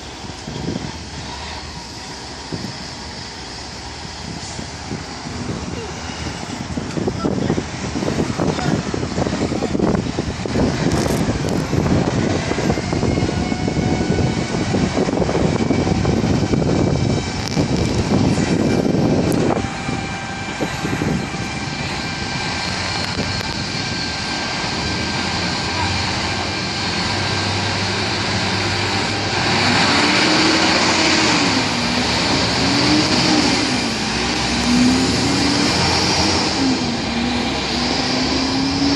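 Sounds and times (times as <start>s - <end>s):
vehicle and road noise: 0.0s - 38.9s.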